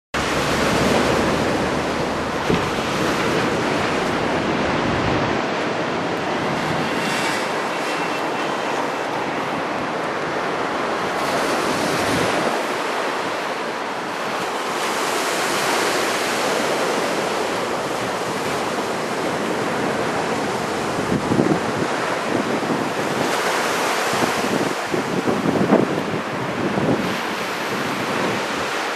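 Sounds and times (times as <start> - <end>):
heavy surf roaring: 0.2 - 28.9
wind on microphone: 0.2 - 28.9.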